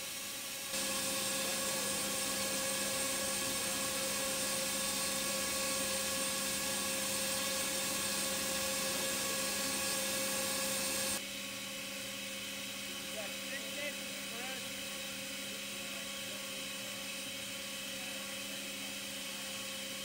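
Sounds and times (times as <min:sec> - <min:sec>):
welding machine whine and hiss: 0:00.0 - 0:20.0.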